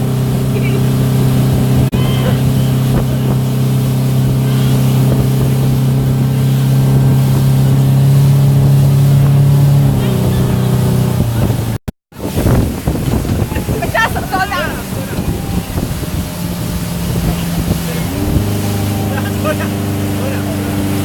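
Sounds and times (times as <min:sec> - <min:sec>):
motorboat engine running: 0:00.0 - 0:21.0
rushing wind and water: 0:00.0 - 0:21.0.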